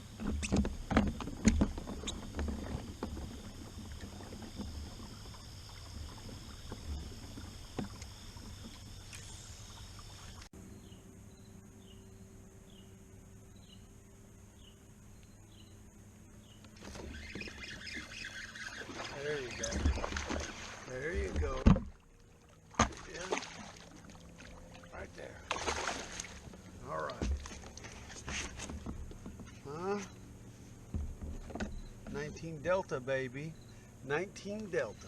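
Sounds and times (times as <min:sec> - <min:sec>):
water movement: 0:00.0 - 0:10.5, 0:16.7 - 0:35.0.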